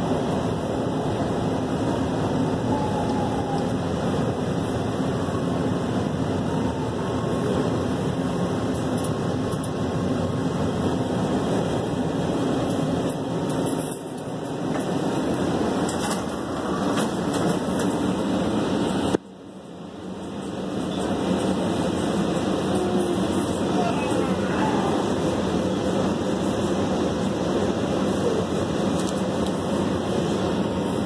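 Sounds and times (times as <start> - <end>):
subway car rumble and hum: 0.0 - 31.0.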